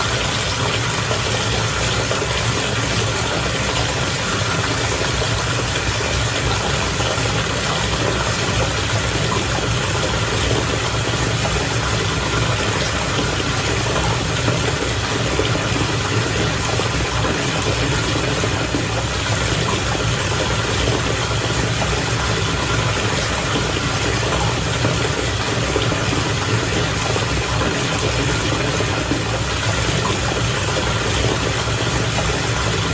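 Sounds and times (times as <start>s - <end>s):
bath water bubbling: 0.0s - 32.9s.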